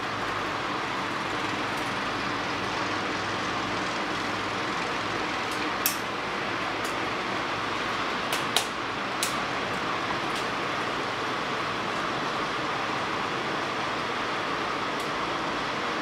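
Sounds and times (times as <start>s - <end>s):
heavy rain and hail hiss: 0.0s - 15.8s.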